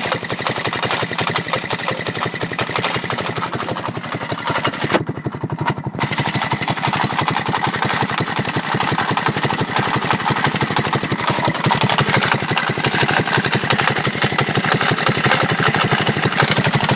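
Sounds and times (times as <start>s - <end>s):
scooter engine running with rattle: 0.0s - 16.9s.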